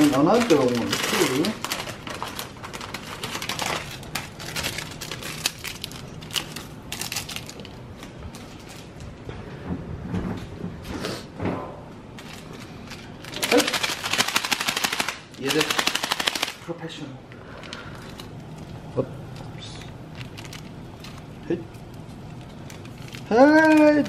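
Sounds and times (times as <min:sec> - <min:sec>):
sachet crackling in fingers: 0:00.0 - 0:08.9, 0:12.2 - 0:16.6, 0:17.6 - 0:24.0
plastic packaging crinkling: 0:00.0 - 0:09.2, 0:12.1 - 0:16.8, 0:17.4 - 0:24.0.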